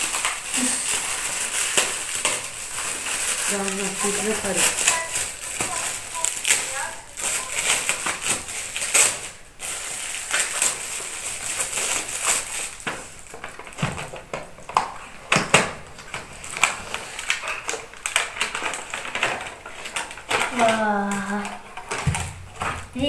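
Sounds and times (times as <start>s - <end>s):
wrapping paper rustling: 0.0s - 23.0s.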